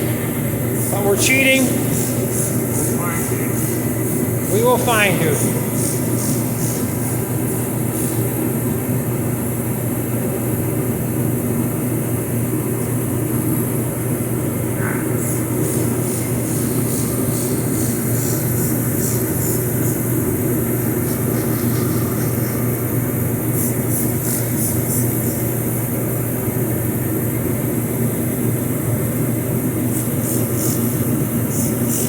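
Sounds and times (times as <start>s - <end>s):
heater humming: 0.0s - 32.0s.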